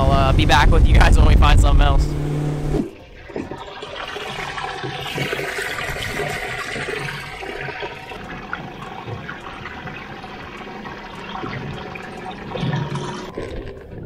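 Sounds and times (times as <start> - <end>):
water rushing and churning: 0.0 - 14.0.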